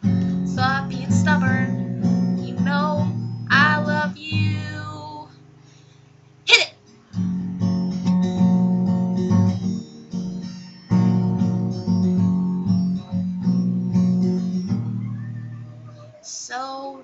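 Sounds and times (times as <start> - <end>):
acoustic guitar strumming chords: 0.0 - 16.6.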